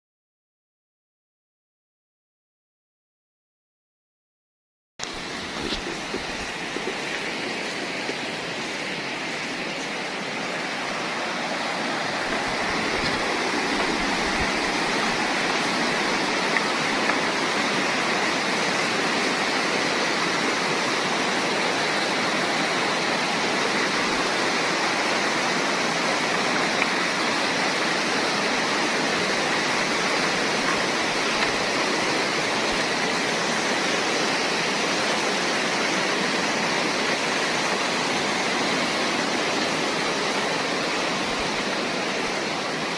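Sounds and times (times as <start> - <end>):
stream rushing over stones: 5.0 - 42.9.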